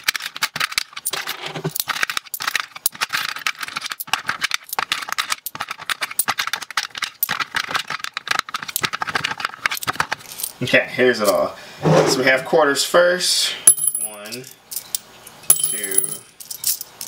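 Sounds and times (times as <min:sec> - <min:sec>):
coins clinking and rattling: 0:00.0 - 0:10.6, 0:13.7 - 0:17.0.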